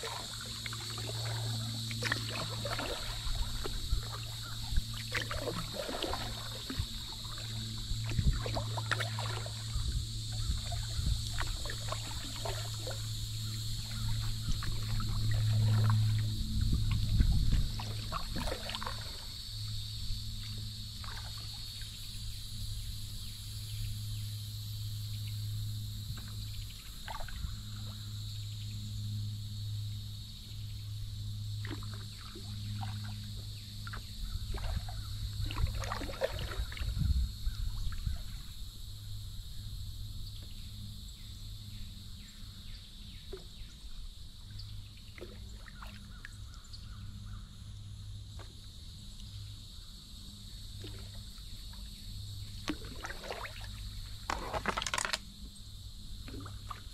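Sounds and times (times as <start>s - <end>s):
water splashing around kayak: 0.0s - 23.3s, 25.6s - 56.9s
high buzz of insects: 0.0s - 56.9s
steady low hum: 0.0s - 56.9s.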